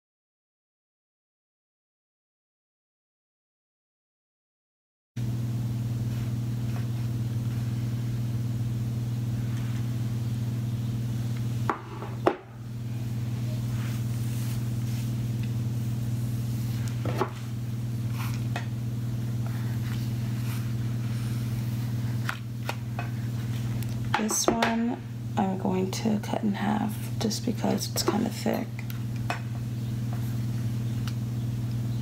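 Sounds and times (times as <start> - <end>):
steady low hum: 5.2 - 32.0.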